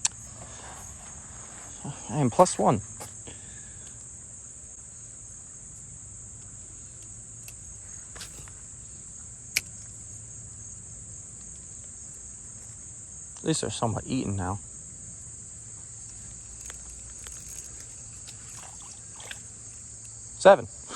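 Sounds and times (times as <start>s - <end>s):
insect chorus buzzing: 0.0s - 20.9s.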